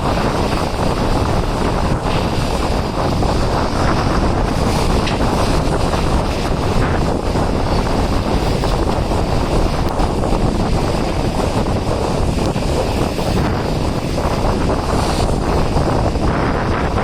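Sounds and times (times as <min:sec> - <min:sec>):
train running noise: 0:00.0 - 0:17.0
wind buffeting microphone: 0:00.0 - 0:17.0.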